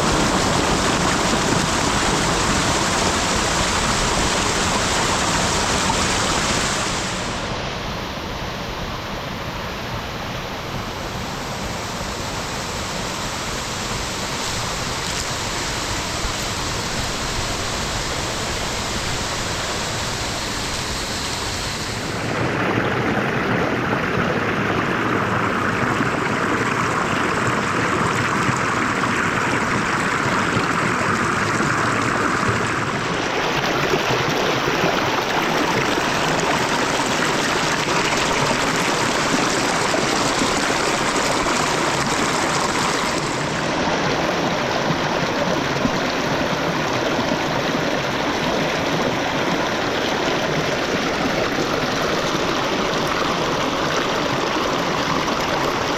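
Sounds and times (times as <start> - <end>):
heavy rain and running water: 0.0 - 55.9.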